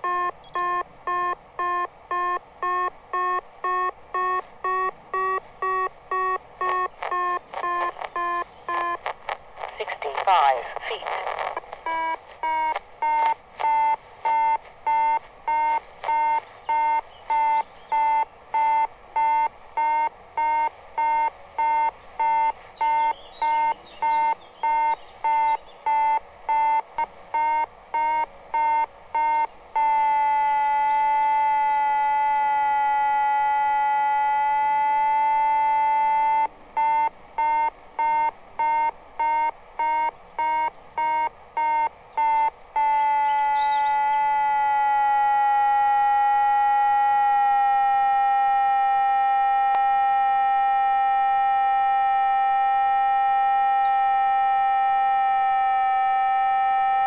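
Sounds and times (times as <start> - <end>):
held electronic tone: 0.0 - 26.8, 27.4 - 57.0
electronic beeping: 0.0 - 57.0.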